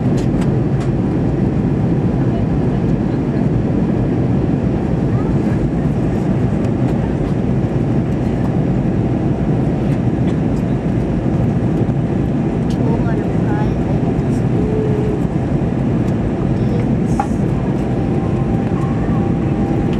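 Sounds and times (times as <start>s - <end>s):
airplane cabin engine noise: 0.0s - 19.9s.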